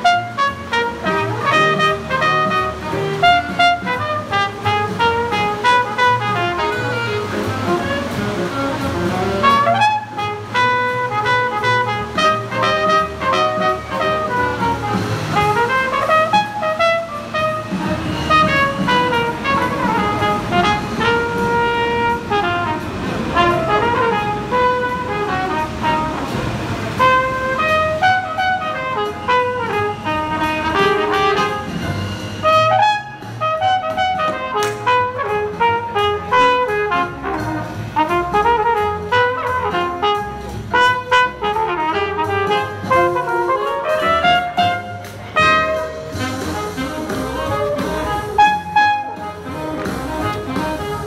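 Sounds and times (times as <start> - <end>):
backing accompaniment with beat: 0.0 - 51.0
saxophone playing jazz swing: 0.0 - 51.0.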